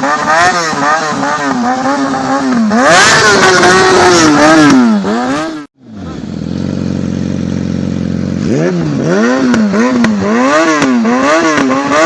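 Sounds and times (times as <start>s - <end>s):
motorcycle engine revving: 0.0s - 12.0s
motorcycle engine idling: 1.1s - 11.2s.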